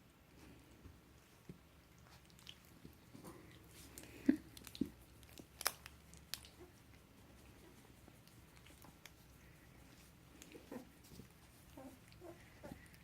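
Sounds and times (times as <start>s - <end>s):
puppies chewing and play-biting: 0.0s - 13.0s.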